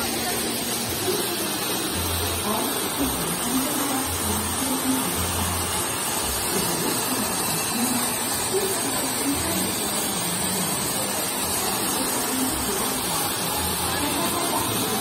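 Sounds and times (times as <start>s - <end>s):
faint voices: 0.0s - 15.0s
fountain water splashing: 0.0s - 15.0s.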